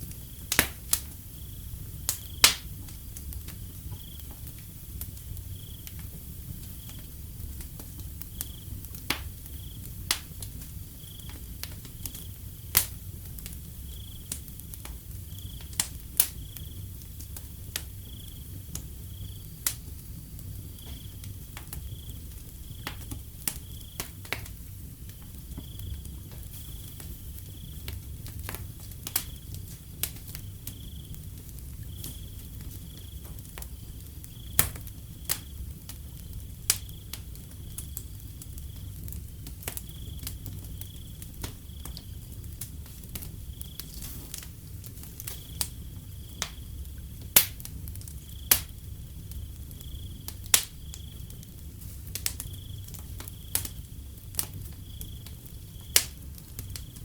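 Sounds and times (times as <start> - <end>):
crickets chirping: 0.0 - 57.0
wood fire crackling and popping: 0.0 - 57.0.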